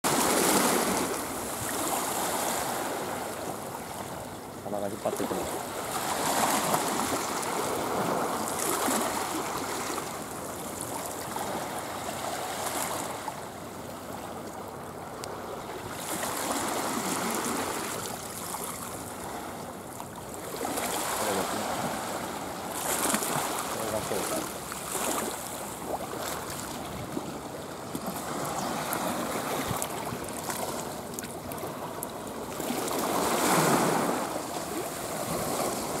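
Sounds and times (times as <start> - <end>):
waves lapping at rocky shore: 0.0 - 36.0.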